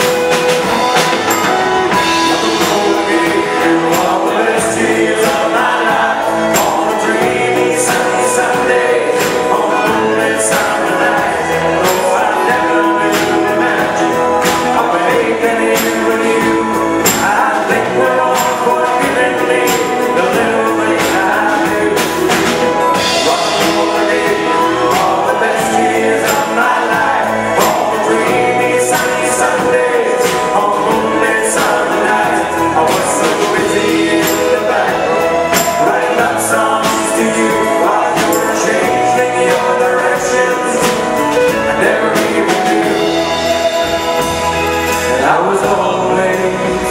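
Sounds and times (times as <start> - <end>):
live rock band playing: 0.0 - 46.9
man singing lead vocals: 0.0 - 46.9.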